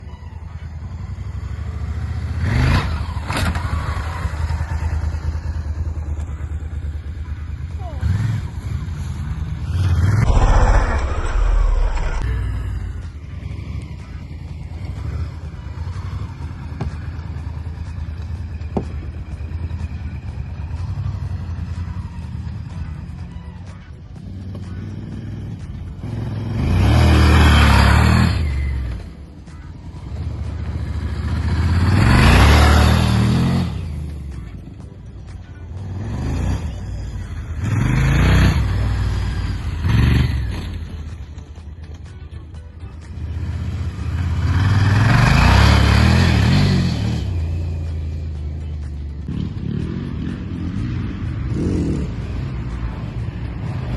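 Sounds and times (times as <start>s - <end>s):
motorcycle engine rumbling: 0.0s - 53.9s.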